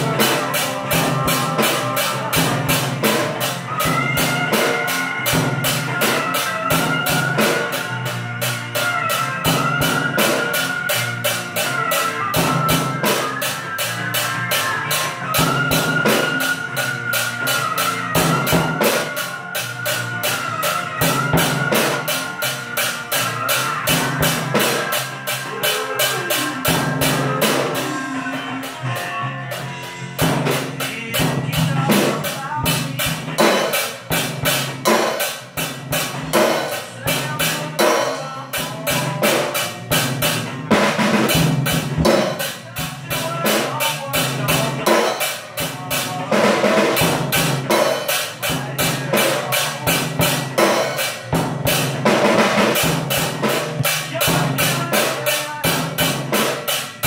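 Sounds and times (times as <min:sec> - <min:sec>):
child playing drum kit: 0:00.0 - 0:57.0
recorded rock song: 0:00.0 - 0:57.0.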